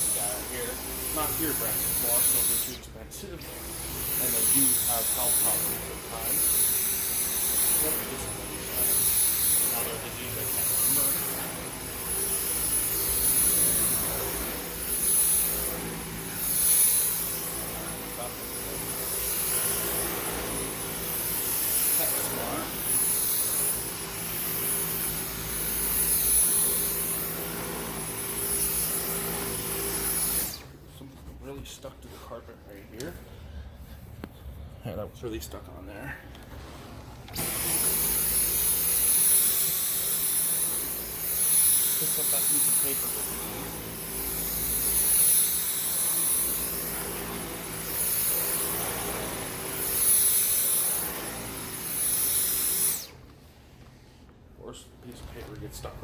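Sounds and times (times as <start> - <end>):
stick vacuum on carpet: 0.0 - 32.3, 36.3 - 56.0.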